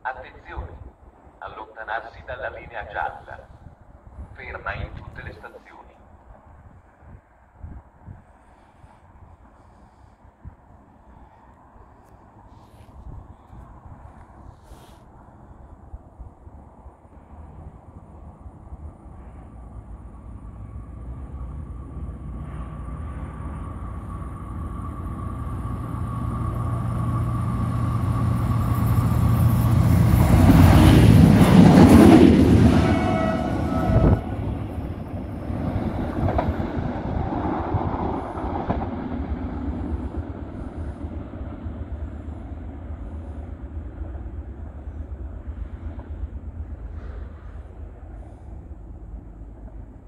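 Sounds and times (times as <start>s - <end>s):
train passing rumble: 0.0s - 50.0s.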